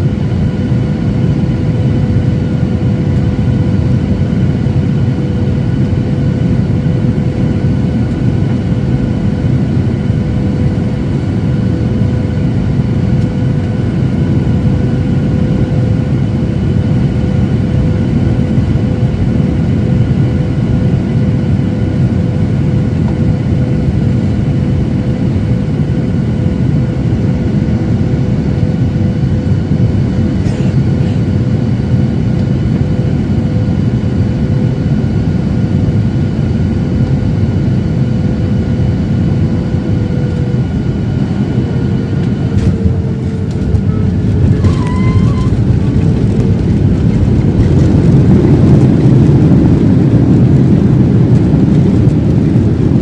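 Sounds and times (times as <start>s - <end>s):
jet engine low rumble: 0.0s - 53.0s
steady engine whine: 0.0s - 53.0s.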